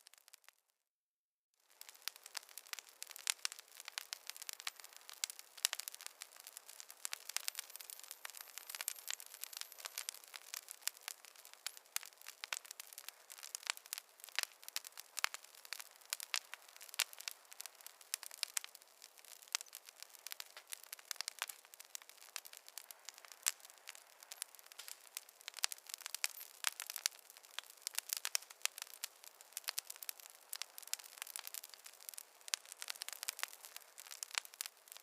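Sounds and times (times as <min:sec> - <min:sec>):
wood fire crackling: 0:00.0 - 0:00.6, 0:01.6 - 0:35.0.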